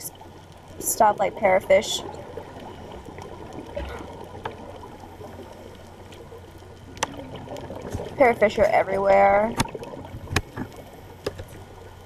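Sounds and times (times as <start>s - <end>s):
muffled underwater water noise: 0.0s - 12.0s.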